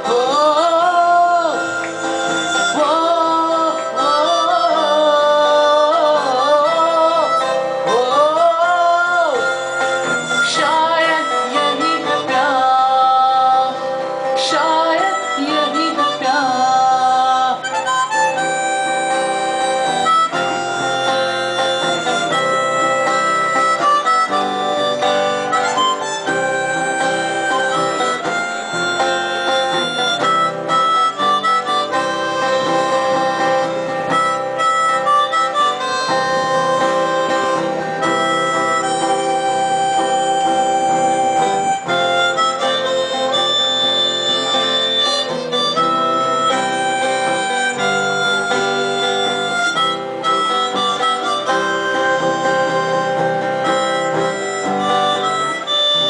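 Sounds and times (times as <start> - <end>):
acoustic guitar: 0.0 - 56.0
harmonica melody: 0.0 - 56.0.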